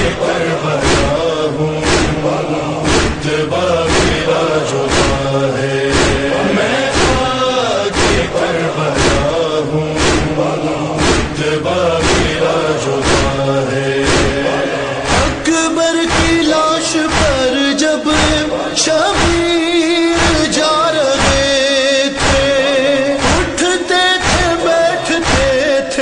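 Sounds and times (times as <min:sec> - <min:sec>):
sharp even beats: 0:00.0 - 0:25.8
men chanting a lament: 0:00.0 - 0:26.0.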